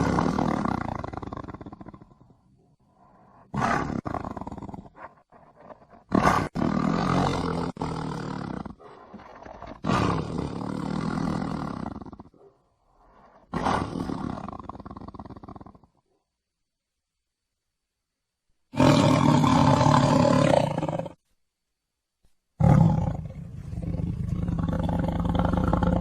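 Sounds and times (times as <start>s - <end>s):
tiger roaring: 0.0s - 2.4s, 3.0s - 15.8s, 18.7s - 21.2s, 22.6s - 26.0s.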